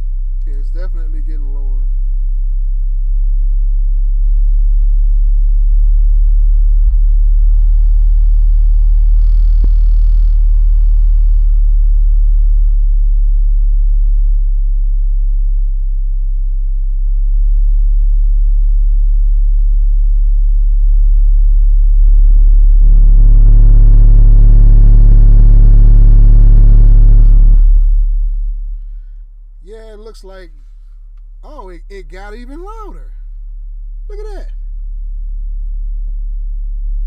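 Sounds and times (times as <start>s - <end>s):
subwoofer playing deep test tone: 0.0s - 37.0s.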